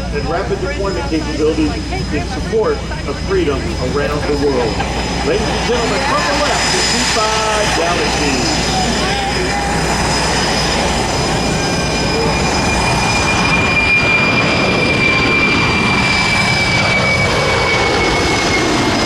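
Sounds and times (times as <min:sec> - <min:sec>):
jet engines roaring with fan whine: 0:00.0 - 0:19.0.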